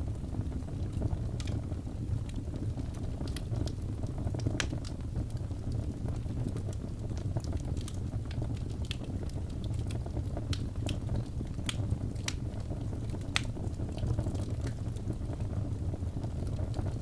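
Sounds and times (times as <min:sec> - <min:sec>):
low rumble of flames: 0:00.0 - 0:17.0
fire pops and snaps: 0:00.2 - 0:17.0.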